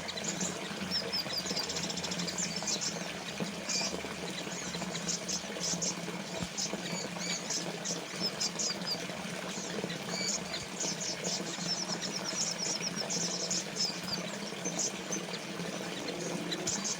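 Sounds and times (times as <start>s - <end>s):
fountain water trickling: 0.0s - 16.9s
small birds chirping: 0.0s - 16.9s.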